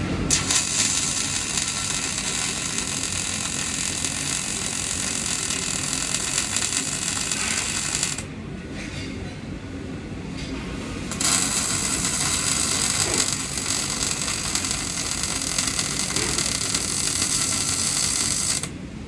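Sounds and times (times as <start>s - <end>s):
welding arc crackling: 0.3s - 8.3s, 11.1s - 18.8s.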